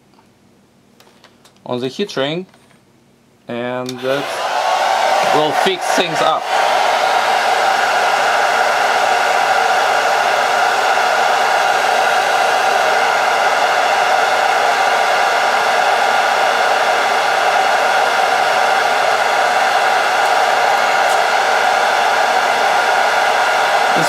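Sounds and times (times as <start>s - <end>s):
hot-air blower running: 3.9s - 24.0s.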